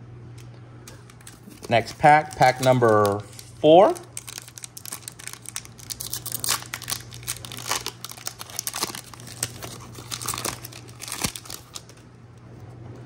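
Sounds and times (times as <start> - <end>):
foil wrapper crinkling and tearing: 0.9 - 12.2.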